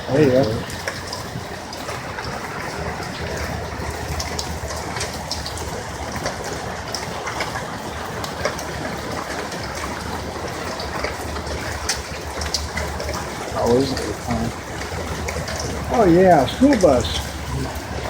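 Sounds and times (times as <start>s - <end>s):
vehicle engine and road rumble: 0.0s - 18.0s
water splashing from tyres: 0.0s - 18.0s.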